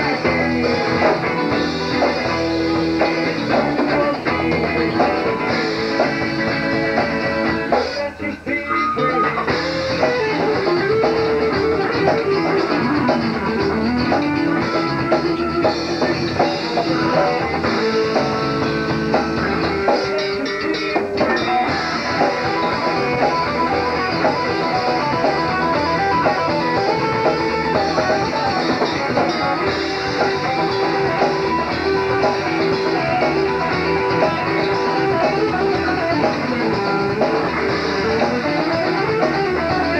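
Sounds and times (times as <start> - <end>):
bending guitar notes: 0.0 - 39.9
rock band playing: 0.0 - 39.9.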